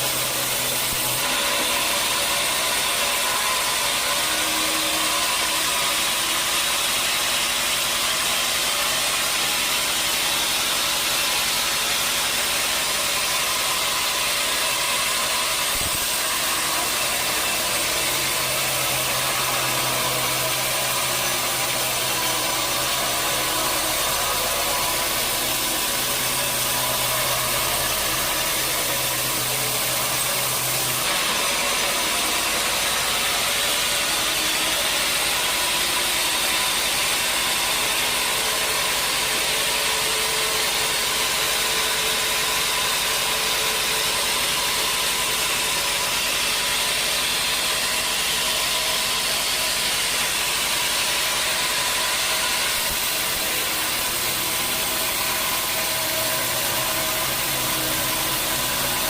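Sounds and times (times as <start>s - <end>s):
sawmill saw cutting log: 0.0s - 59.0s.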